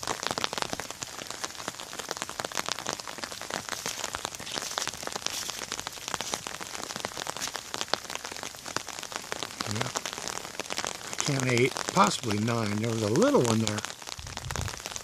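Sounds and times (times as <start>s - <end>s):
rain falling: 0.0s - 15.0s
raindrops ticking on a surface: 0.0s - 15.0s.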